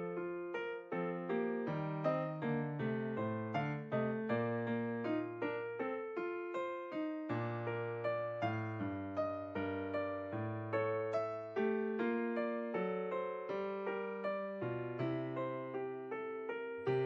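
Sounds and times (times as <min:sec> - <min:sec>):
piano melody with chords: 0:00.0 - 0:17.0.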